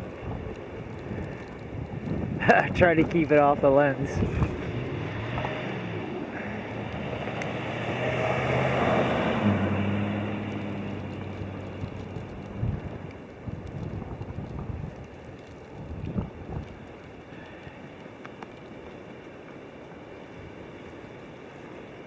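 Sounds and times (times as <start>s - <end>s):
storm wind blowing: 0.0s - 22.0s.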